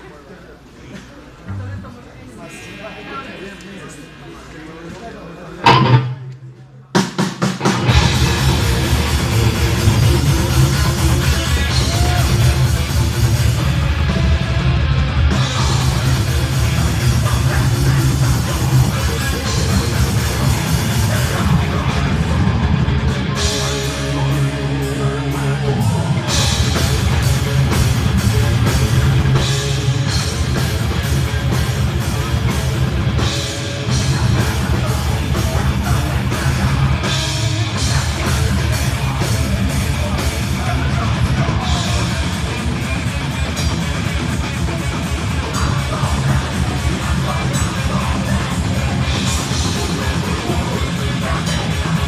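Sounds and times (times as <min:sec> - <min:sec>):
rapid drum beats: 0:05.6 - 0:06.3, 0:07.0 - 0:52.0
heavy metal band playing live: 0:05.6 - 0:06.4, 0:07.0 - 0:52.0.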